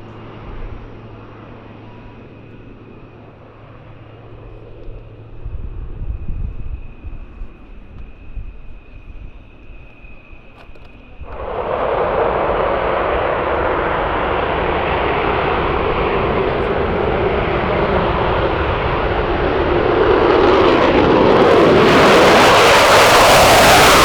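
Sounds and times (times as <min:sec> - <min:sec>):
aircraft engines at full power: 0:00.0 - 0:24.0.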